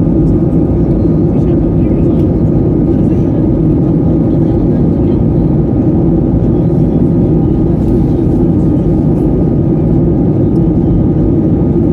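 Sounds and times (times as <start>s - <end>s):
airliner cabin engine rush: 0.0s - 11.9s.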